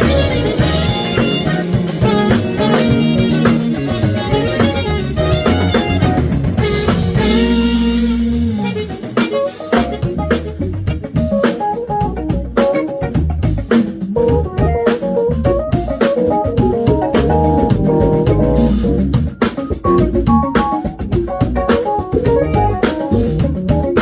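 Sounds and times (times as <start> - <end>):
drum kit: 0.0 - 24.0
electric bass: 0.0 - 24.0
guitar: 0.0 - 24.0
smooth jazz band playing: 0.0 - 24.0.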